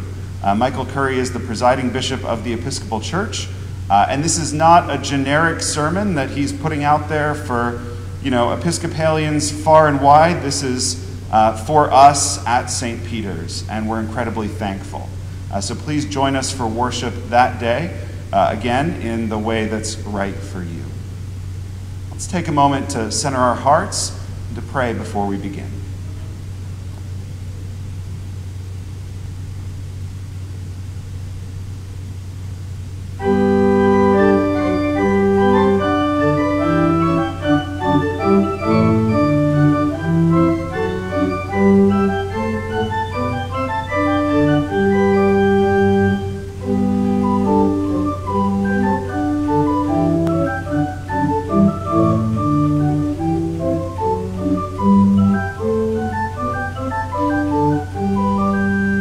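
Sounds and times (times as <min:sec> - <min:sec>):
church organ playing held notes: 0:00.0 - 0:26.6, 0:33.2 - 0:59.0
steady low hum: 0:00.0 - 0:59.0.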